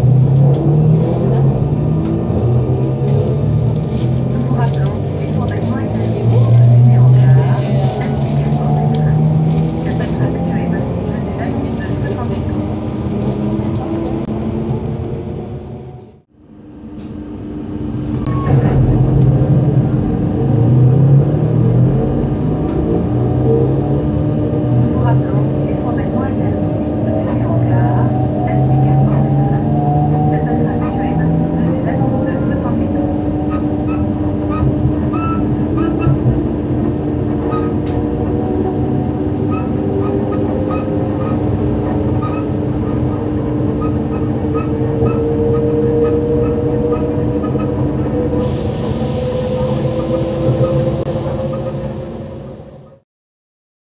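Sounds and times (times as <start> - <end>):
electric train motor drone: 0.0 - 16.0, 18.7 - 53.0.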